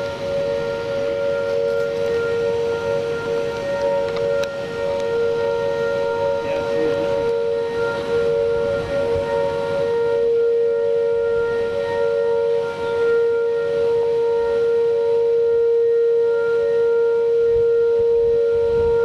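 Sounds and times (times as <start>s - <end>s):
tornado sirens wailing: 0.0s - 19.0s.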